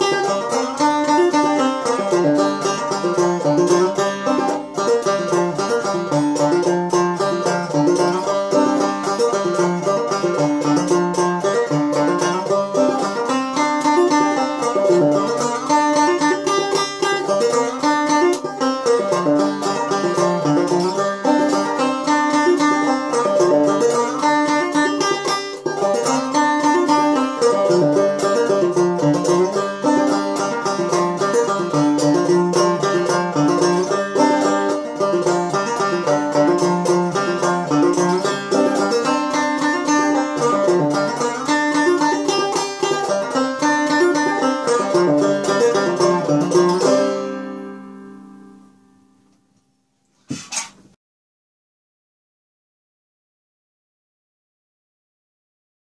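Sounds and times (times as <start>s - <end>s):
banjo plucking and strumming: 0.0s - 49.3s, 50.3s - 50.8s.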